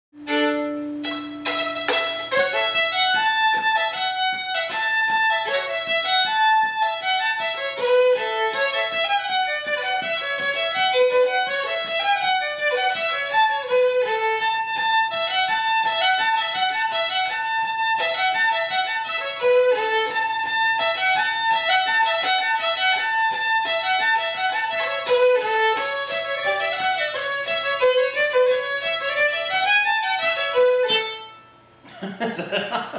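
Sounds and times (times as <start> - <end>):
solo fiddle playing lively tune: 0.2 - 31.6.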